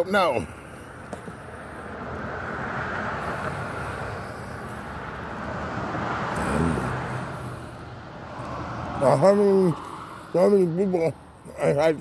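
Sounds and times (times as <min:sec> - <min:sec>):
passing vehicles rushing: 0:00.0 - 0:12.0.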